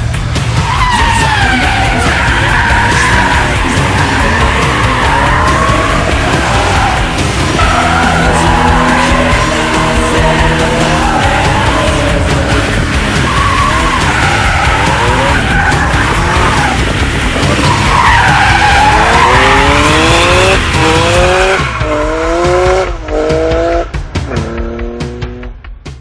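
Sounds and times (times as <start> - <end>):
car engine accelerating hard: 0.0 - 25.6
tyres squealing: 0.6 - 21.9.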